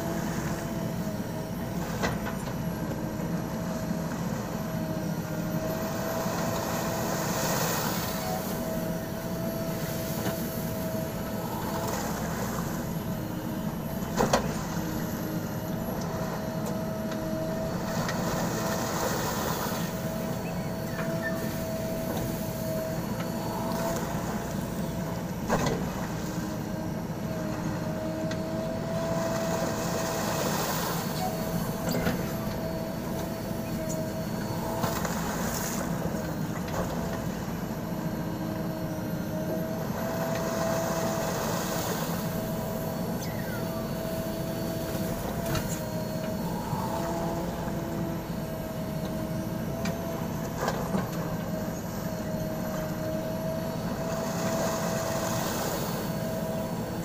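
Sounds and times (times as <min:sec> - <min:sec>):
diesel engine whine and rumble: 0:00.0 - 0:57.0.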